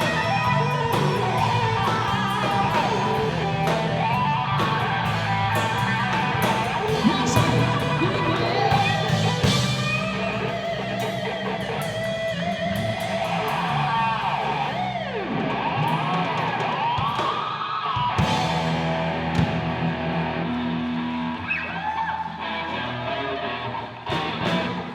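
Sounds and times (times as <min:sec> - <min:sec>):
electric guitar with pitch bends: 0:00.0 - 0:24.9
live rock band playing: 0:00.0 - 0:24.9.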